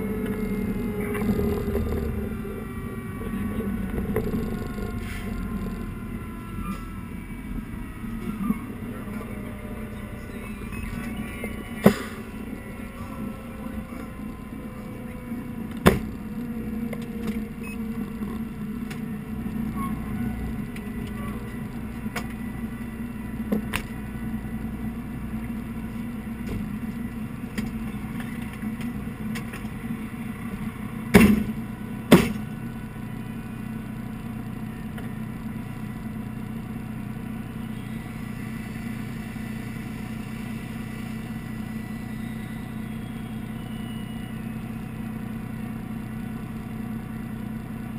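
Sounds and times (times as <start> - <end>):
fire engine idling: 0.0 - 47.9.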